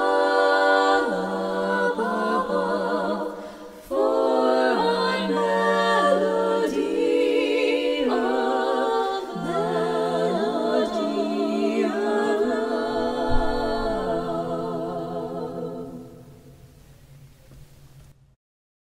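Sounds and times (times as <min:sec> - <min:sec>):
women singing a cappella harmony: 0:00.0 - 0:16.6.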